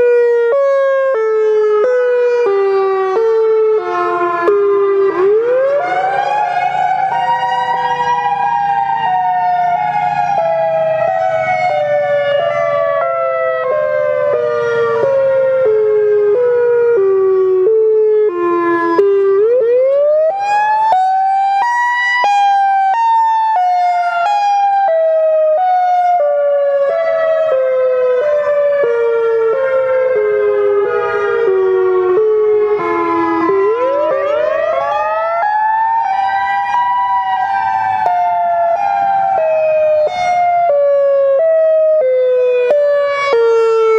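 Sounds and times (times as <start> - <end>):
electronic emergency siren: 0.0 - 43.9.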